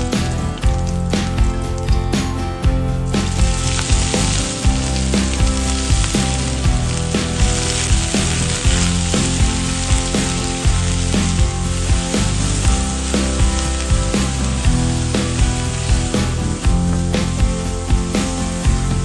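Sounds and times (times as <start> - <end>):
background music with a beat: 0.0 - 19.0
food sizzling in hot oil: 3.0 - 19.0.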